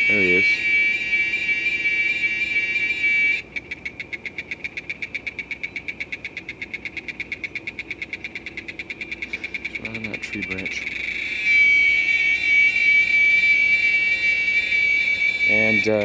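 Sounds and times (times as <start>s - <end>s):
cicada whistling drone: 0.0s - 16.0s.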